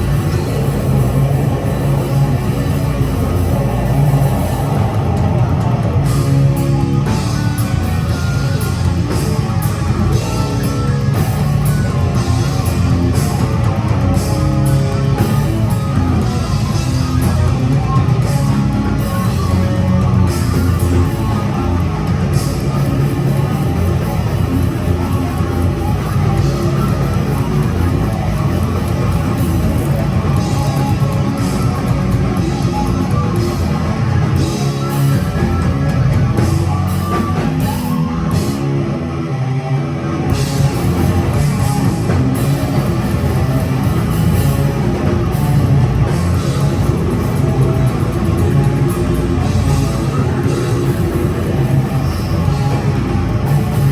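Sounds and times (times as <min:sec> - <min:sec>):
death metal band playing: 0:00.0 - 0:53.9.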